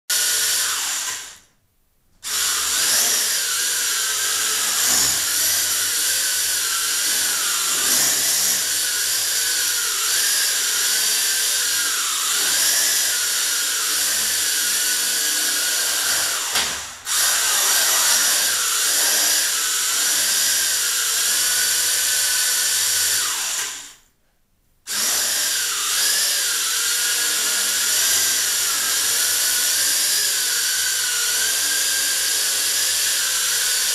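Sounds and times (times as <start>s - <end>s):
quadcopter motors whining: 0.1s - 1.5s, 2.2s - 24.0s, 24.9s - 33.9s.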